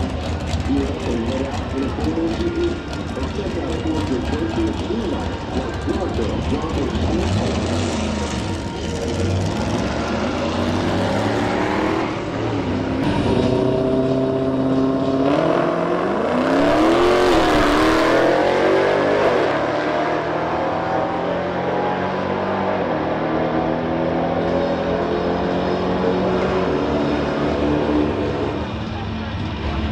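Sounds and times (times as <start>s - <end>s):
car engine revving and accelerating: 0.0s - 29.9s.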